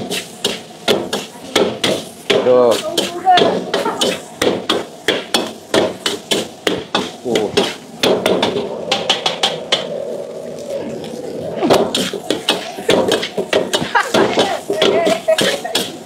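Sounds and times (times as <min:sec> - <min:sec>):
spatula clanking and scraping wok: 0:00.0 - 0:09.9, 0:11.7 - 0:16.0.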